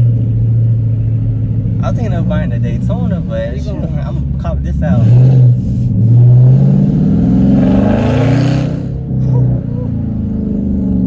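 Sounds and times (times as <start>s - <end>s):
car exhaust revving: 0.0s - 11.0s.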